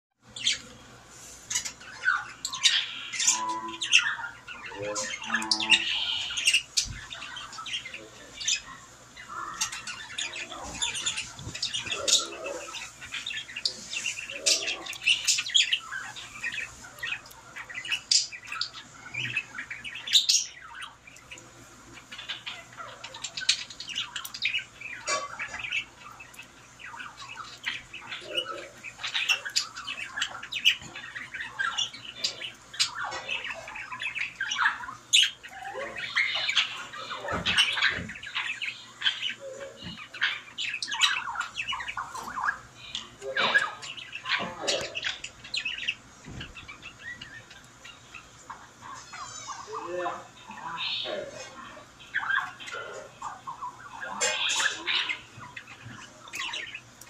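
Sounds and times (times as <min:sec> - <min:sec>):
birds chirping and squawking: 0:00.2 - 0:57.0.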